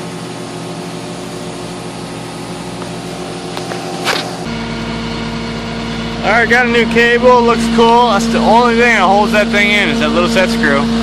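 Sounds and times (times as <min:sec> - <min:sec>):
truck engine idling: 0:00.1 - 0:11.0.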